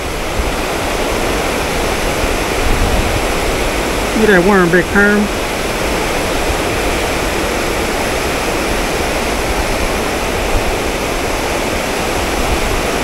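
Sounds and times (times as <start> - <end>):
river water rushing over dam: 0.0 - 13.0.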